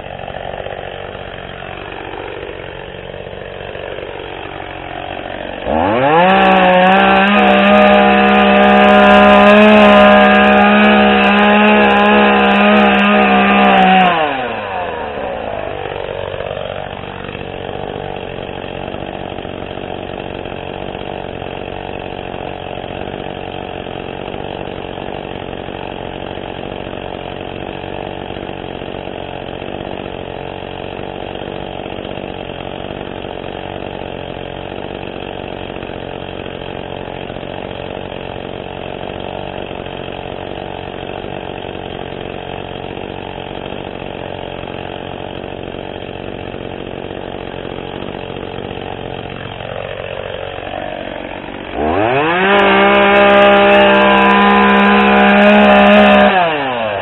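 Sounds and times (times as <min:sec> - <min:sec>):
chainsaw idling and revving: 0:00.0 - 0:57.0.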